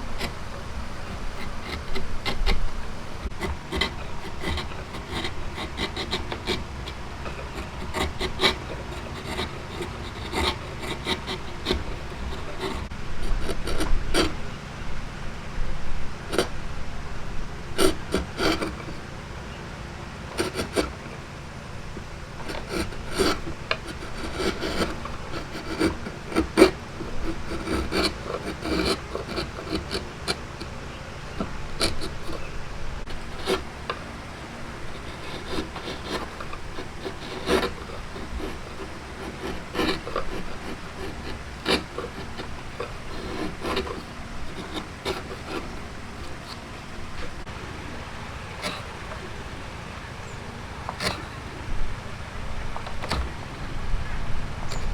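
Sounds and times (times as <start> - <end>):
hand tool rasping wood: 0.0 - 14.4, 16.2 - 16.6, 17.8 - 19.1, 20.2 - 21.2, 21.8 - 47.6, 48.4 - 49.4, 50.8 - 51.6, 52.8 - 53.4.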